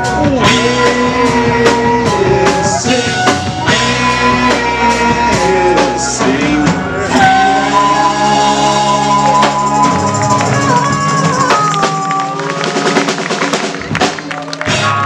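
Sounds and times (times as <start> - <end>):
electric guitar chords: 0.0 - 15.0
rolling drums: 0.0 - 15.0.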